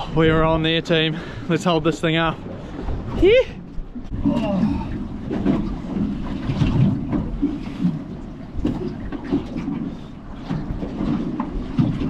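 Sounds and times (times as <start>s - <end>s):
water around a boat: 0.0s - 12.0s
wind: 0.0s - 12.0s.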